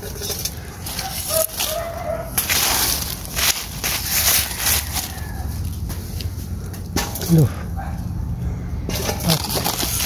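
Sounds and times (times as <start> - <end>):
dry leaves rustling and crackling: 0.0 - 7.5, 8.9 - 10.0.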